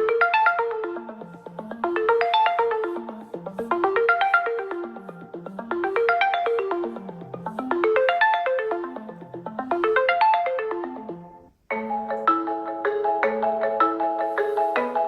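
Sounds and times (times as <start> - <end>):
phone ringtone melody: 0.0 - 15.0
ringtone with repeated notes: 0.0 - 15.0.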